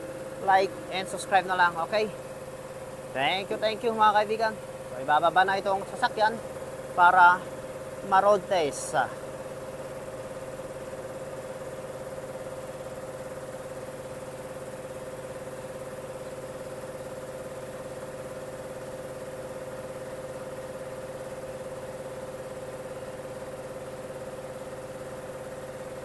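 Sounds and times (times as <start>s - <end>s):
machine hum with whine: 0.0s - 26.0s.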